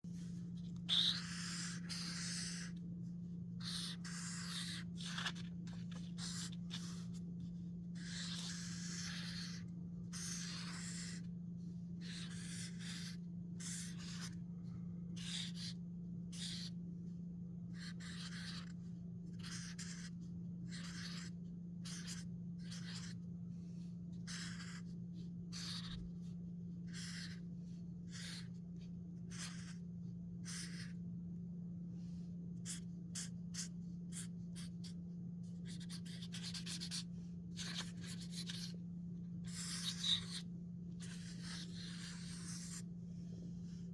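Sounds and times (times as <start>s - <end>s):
steady low hum: 0.0s - 43.9s
pencil strokes scratching on paper: 0.1s - 14.5s, 17.7s - 31.0s, 32.0s - 38.8s, 39.4s - 43.9s.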